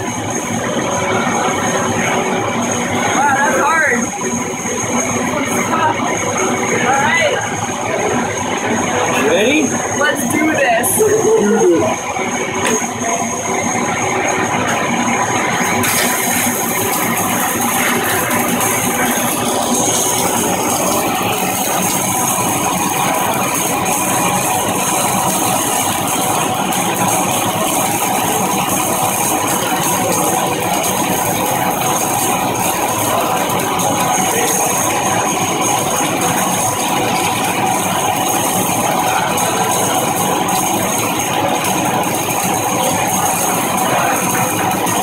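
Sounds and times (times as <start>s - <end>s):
welding arc crackling and hissing: 0.0s - 45.0s.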